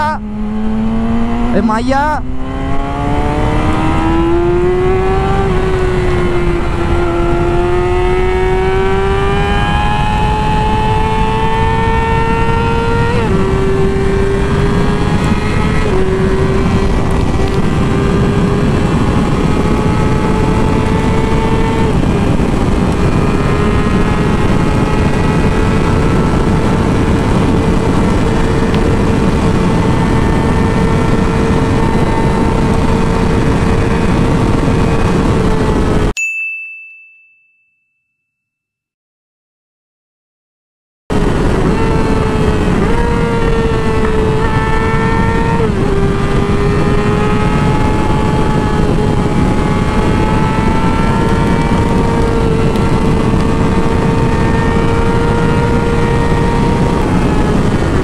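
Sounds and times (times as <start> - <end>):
wind rush: 0.0 - 36.1, 41.1 - 58.0
motorcycle engine revving high: 0.0 - 36.2, 41.1 - 58.0.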